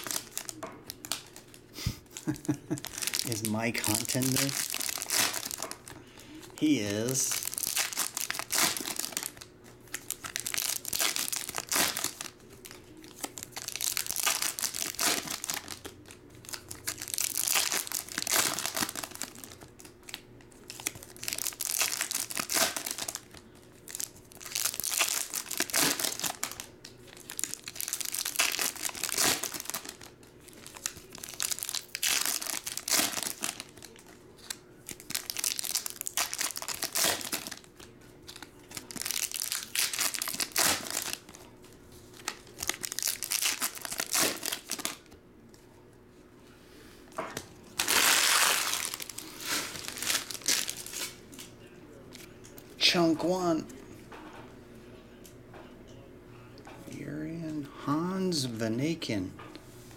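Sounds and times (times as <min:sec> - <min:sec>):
foil wrappers tearing and crinkling: 0:00.0 - 0:41.5, 0:42.1 - 0:45.1, 0:47.7 - 0:51.5.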